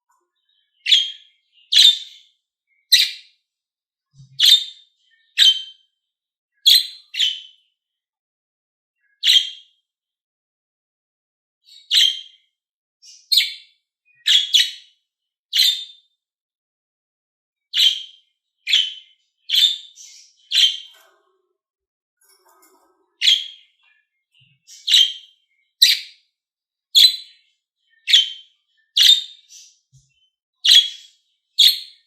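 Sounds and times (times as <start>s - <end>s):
bird chirping: 0.0s - 3.4s, 4.1s - 6.0s, 6.6s - 7.8s, 9.0s - 9.8s, 11.6s - 16.2s, 17.7s - 21.6s, 22.2s - 32.0s.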